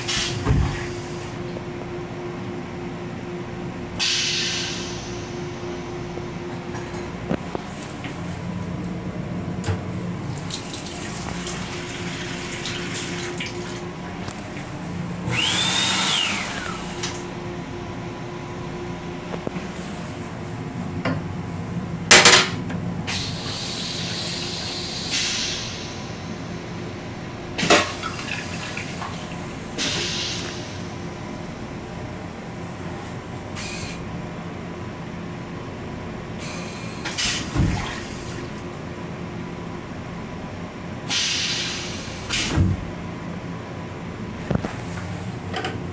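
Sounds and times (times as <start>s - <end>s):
rail car hum: 0.0s - 45.9s.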